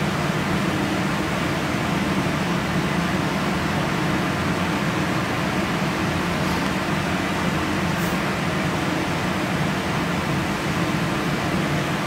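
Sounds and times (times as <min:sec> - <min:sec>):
range hood fan humming: 0:00.0 - 0:12.0.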